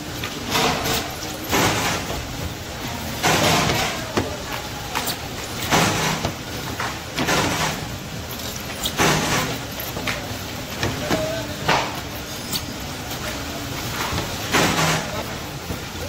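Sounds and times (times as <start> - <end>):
steady machine hum: 0.0 - 16.0
cutting press clattering stroke: 0.2 - 2.4, 3.0 - 15.4.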